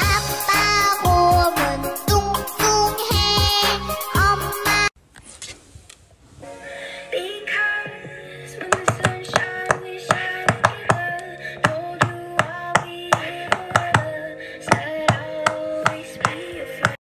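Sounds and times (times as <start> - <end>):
slow song from speaker: 0.0 - 4.9, 6.3 - 17.0.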